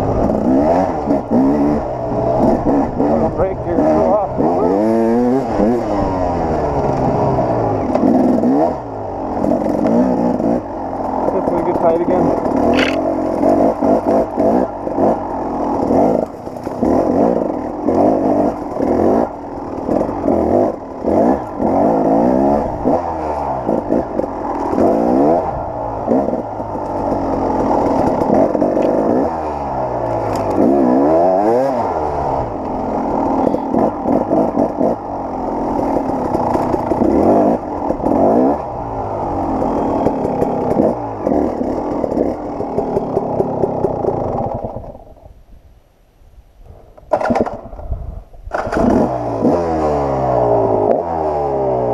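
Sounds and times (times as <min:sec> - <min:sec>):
dirt bike engine revving: 0:00.0 - 0:45.1, 0:48.5 - 0:51.9.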